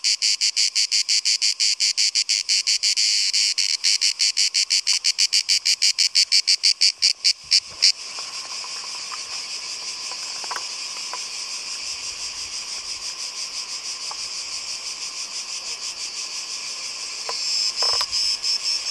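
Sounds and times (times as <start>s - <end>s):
cicadas singing in rapid pulses: 0.0s - 18.9s
steady high buzz of cicadas: 0.0s - 18.9s.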